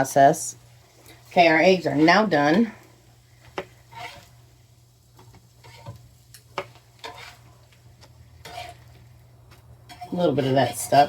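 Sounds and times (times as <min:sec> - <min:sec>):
faint sizzle: 0:00.0 - 0:11.0
spatula scraping frying pan: 0:00.9 - 0:11.0.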